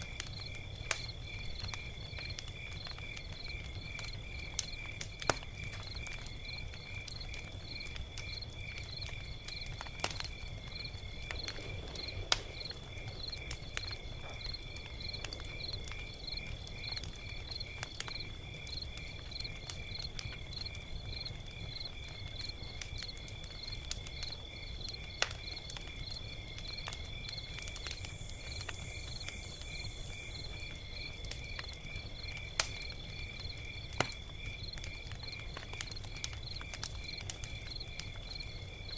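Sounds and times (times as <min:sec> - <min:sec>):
crickets chirping: 0:00.0 - 0:38.9
log fire crackling: 0:00.0 - 0:38.9.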